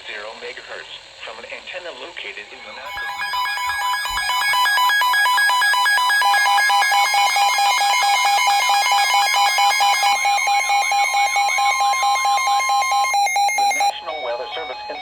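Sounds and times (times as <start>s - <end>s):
steady warning alarm tone: 2.6s - 15.0s
electronic beeping and warbling alarms: 2.7s - 15.0s.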